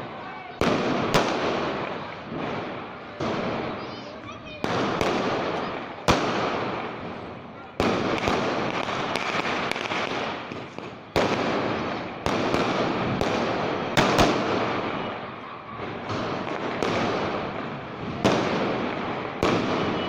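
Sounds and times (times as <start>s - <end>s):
firecrackers crackling: 0.0s - 20.0s
firecracker bangs: 0.6s - 20.0s.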